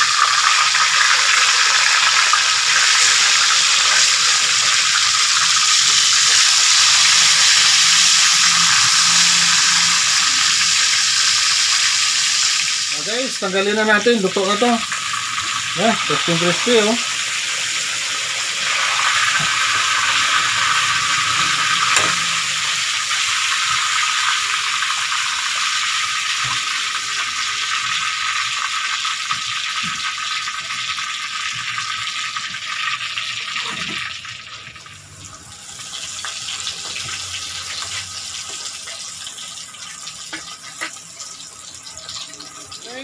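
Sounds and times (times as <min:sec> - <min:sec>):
oil sizzling in a wok: 0:00.0 - 0:43.0.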